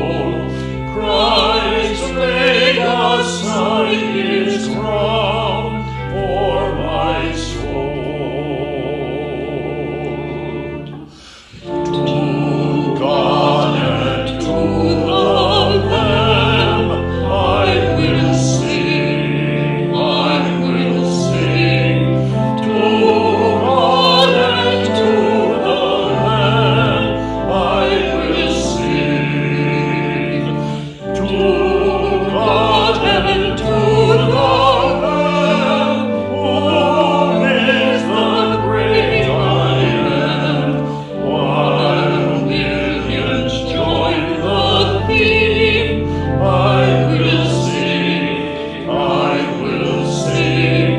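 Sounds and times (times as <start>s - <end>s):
choir singing classical piece: 0.0s - 50.9s
instrumental accompaniment: 0.0s - 50.9s.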